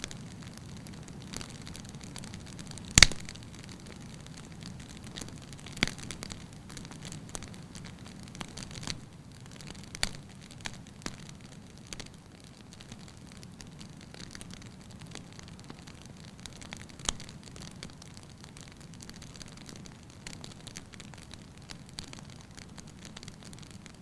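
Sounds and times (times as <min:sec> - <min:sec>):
fire crackling in a fireplace: 0:00.0 - 0:24.0.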